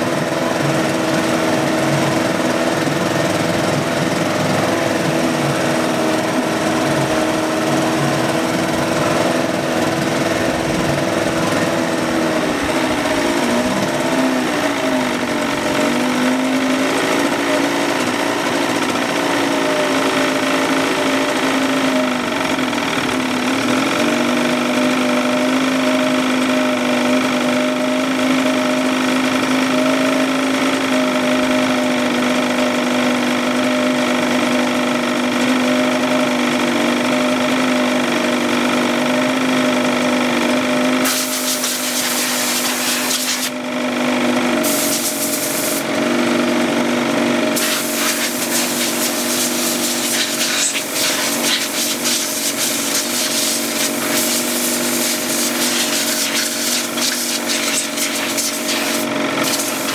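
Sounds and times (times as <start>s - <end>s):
two-stroke outboard motor running: 0.0s - 59.9s.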